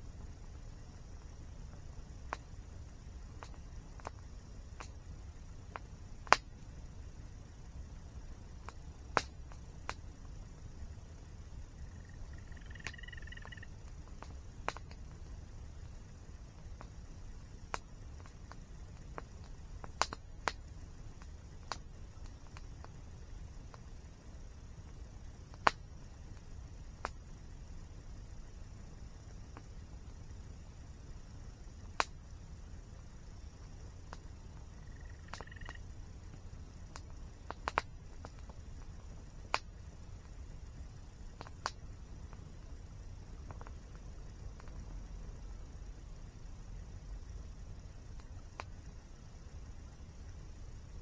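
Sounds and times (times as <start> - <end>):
campfire crackling and popping: 0.0 - 51.0
low fire rumble: 0.0 - 51.0.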